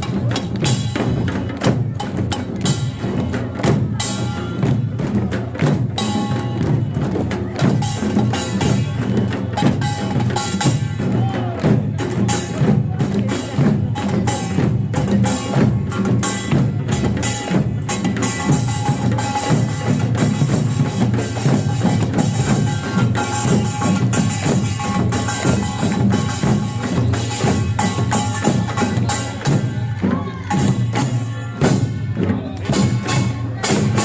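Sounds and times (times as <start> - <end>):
drums beating fast rhythm: 0.0 - 34.0.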